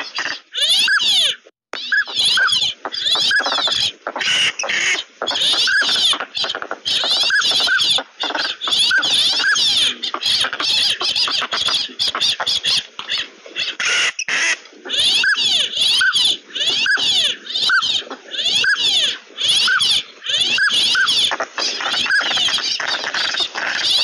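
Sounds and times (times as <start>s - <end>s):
ducks whistling: 0.0s - 24.0s.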